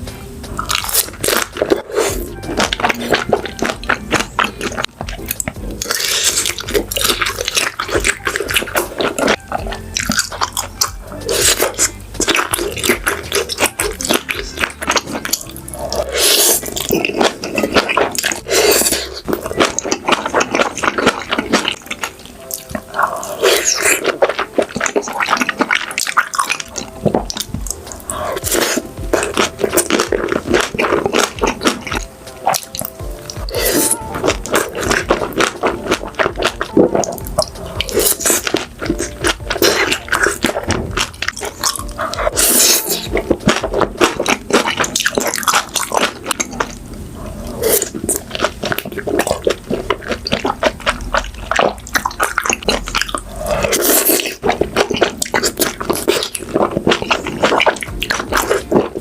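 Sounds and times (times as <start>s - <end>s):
wet chewing and smacking: 0.5s - 59.0s.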